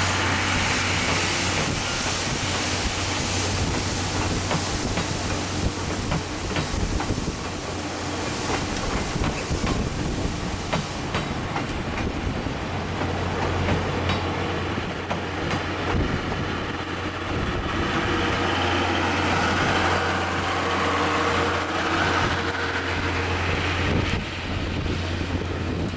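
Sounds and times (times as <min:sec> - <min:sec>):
train wheels clacking over rail joints: 0:00.0 - 0:25.9.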